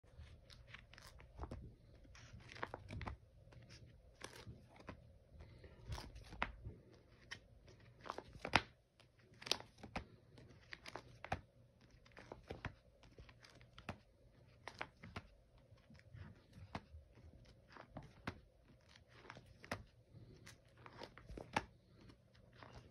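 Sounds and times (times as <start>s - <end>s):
plastic pages crinkling: 0.1s - 22.9s.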